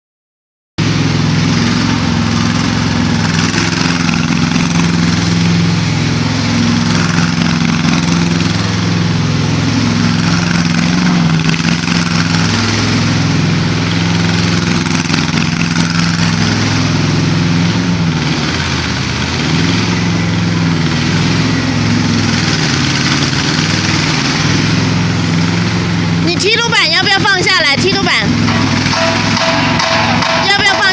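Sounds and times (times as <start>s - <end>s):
mini excavator engine running: 0.8s - 30.9s.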